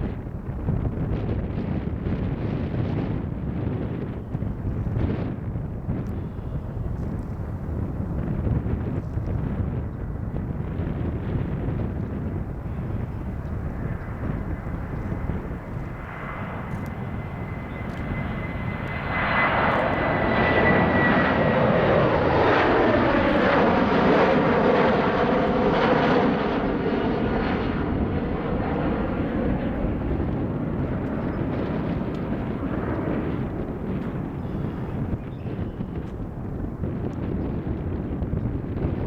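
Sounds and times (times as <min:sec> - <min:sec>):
jet engines roaring at takeoff: 0:00.0 - 0:39.0.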